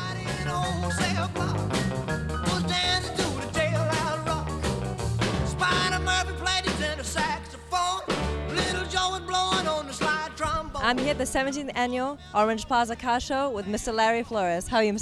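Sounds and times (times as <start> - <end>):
rock and roll song with vocals: 0.0 - 14.9.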